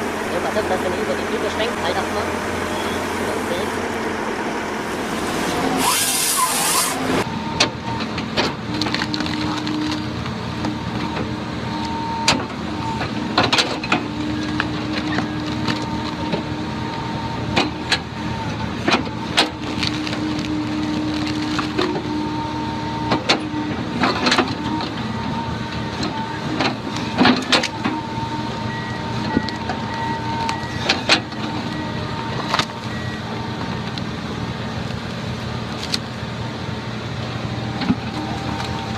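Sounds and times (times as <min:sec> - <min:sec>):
heavy machinery running: 0:00.0 - 0:38.9.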